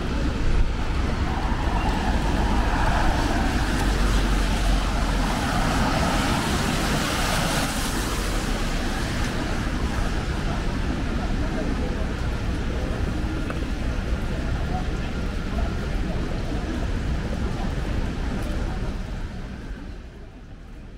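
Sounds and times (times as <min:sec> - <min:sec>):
engine rumble: 0:00.0 - 0:19.6
tyres hissing on wet road: 0:00.0 - 0:19.7.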